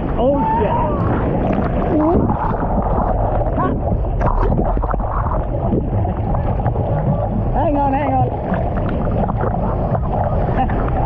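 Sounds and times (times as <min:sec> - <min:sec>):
ocean surf churning: 0:00.0 - 0:11.0
wind noise: 0:00.0 - 0:11.0.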